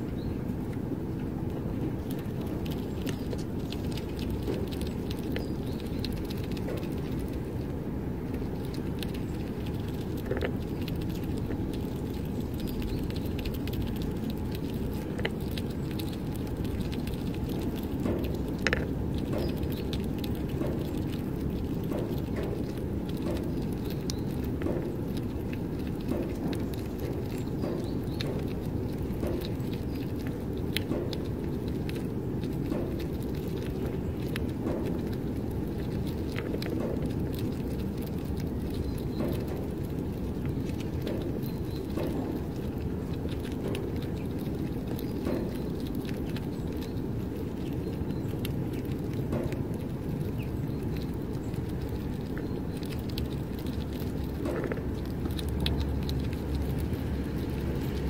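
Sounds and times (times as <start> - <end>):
squirrel chewing nuts: 0.0 - 58.0
steady low rumble: 0.0 - 58.0.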